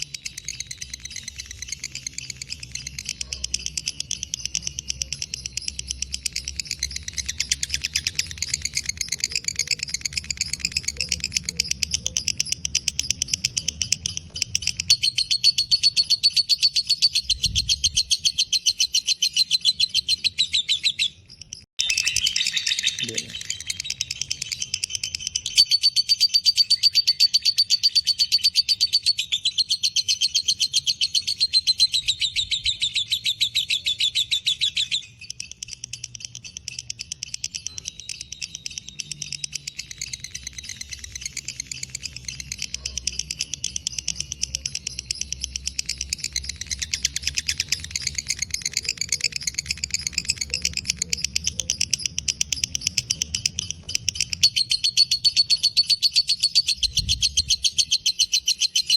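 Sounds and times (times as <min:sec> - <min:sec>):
bird chattering trill: 0:00.0 - 0:58.9.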